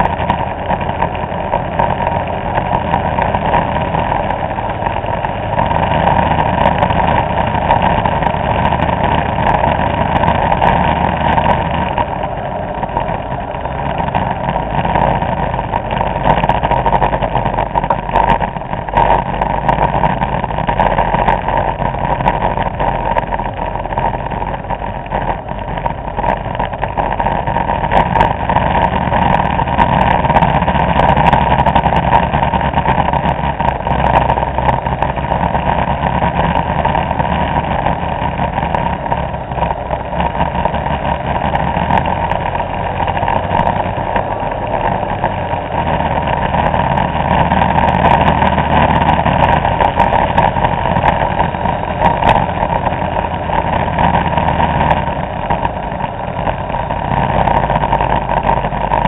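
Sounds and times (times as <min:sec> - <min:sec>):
scooter engines droning: 0:00.0 - 0:59.0.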